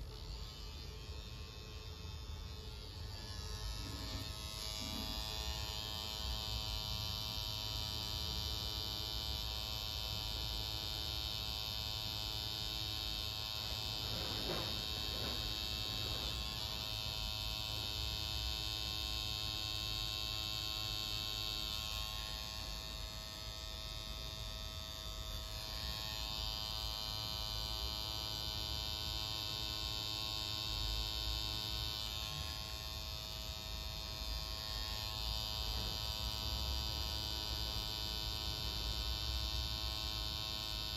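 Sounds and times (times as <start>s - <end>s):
tattoo machine buzzing: 0.0s - 40.9s.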